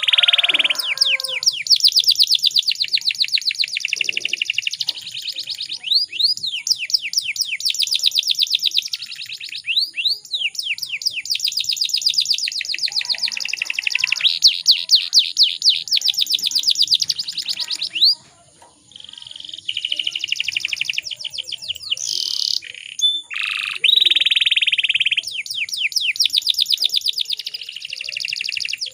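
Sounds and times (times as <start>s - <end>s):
canary trilling: 0.0s - 28.9s.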